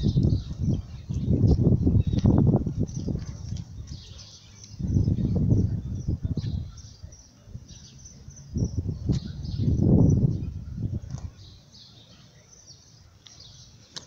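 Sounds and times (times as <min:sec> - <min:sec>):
wind buffeting the microphone: 0:00.0 - 0:11.6
small birds chirping: 0:00.0 - 0:14.0.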